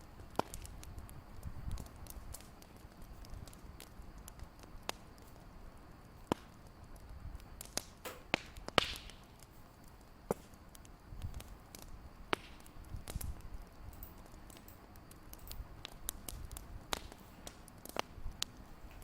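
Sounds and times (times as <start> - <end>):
fireplace crackling and popping: 0.0 - 19.0.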